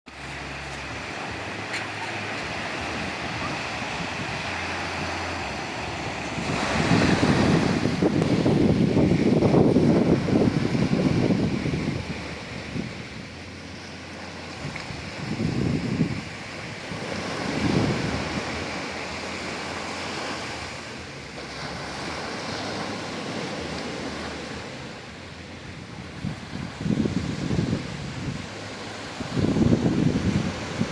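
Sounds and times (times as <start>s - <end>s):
wave breaking: 0.1s - 30.9s
waves washing onto beach: 0.1s - 30.9s
wind buffeting microphone: 0.4s - 30.9s.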